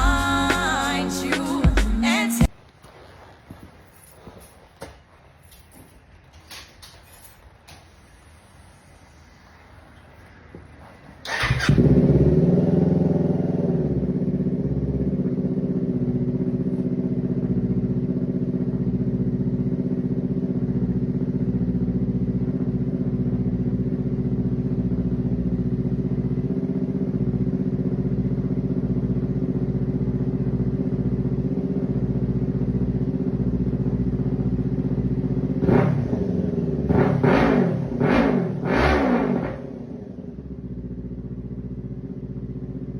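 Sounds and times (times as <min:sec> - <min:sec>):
motorcycle engine idling and revving: 0:00.0 - 0:02.0, 0:02.9 - 0:42.9.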